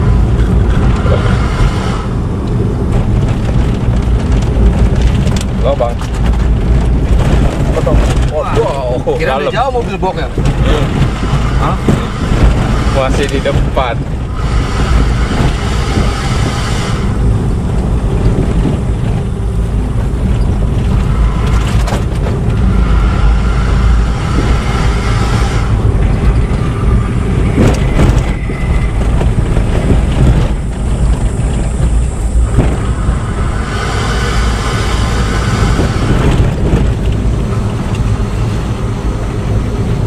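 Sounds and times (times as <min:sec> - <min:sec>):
road and wind noise: 0:00.0 - 0:40.0
vehicle engine: 0:00.0 - 0:40.0.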